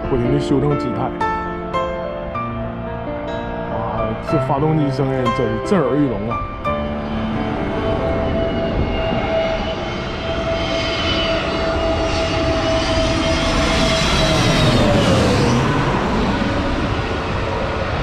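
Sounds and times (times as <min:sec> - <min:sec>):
jet airliner roaring overhead: 0:00.0 - 0:18.0.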